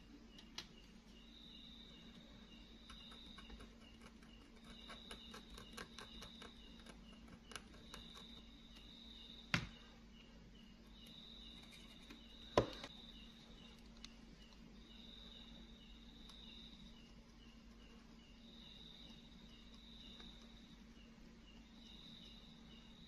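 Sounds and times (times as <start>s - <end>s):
insect chirring: 0.0s - 23.0s
steady low hum: 0.0s - 23.0s.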